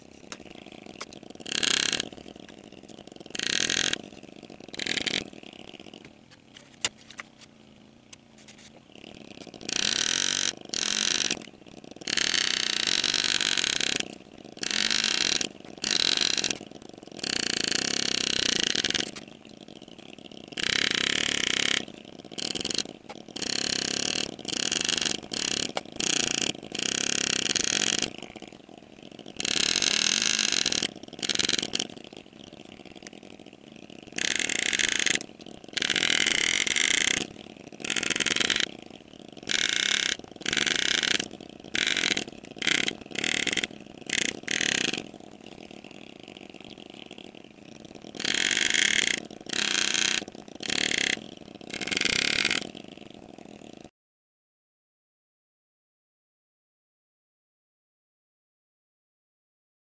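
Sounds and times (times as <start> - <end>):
engraving handpiece buzzing: 0.0 - 53.9
steady low hum: 0.0 - 53.9.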